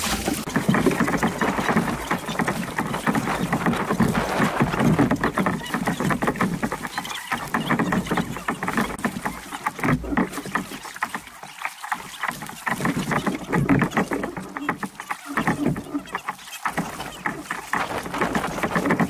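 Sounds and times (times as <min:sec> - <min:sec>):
sped-up paddle strokes and splashing: 0:00.0 - 0:19.0.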